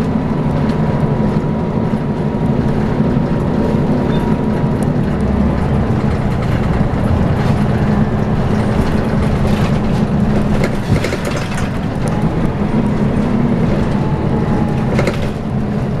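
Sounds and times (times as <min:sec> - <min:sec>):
bus body rattling: 0:00.0 - 0:16.0
bus diesel engine droning: 0:00.0 - 0:16.0.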